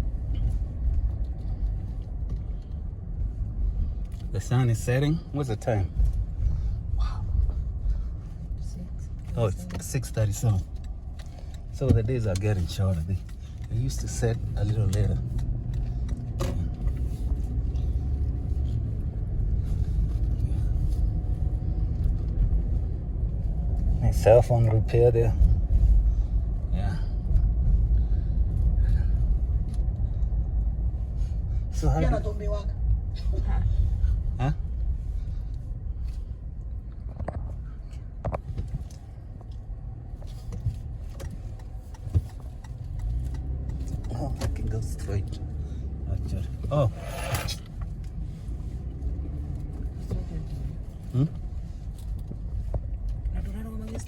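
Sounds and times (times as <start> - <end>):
road and engine noise inside car: 0.0 - 54.0.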